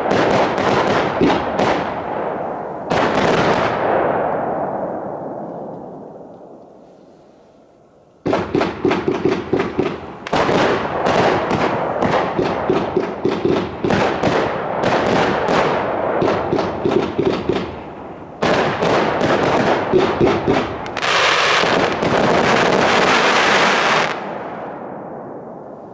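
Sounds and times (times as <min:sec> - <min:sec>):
firework battery shots and bursts: 0:00.0 - 0:05.1, 0:08.2 - 0:25.0
dense firework crackling: 0:00.0 - 0:25.9.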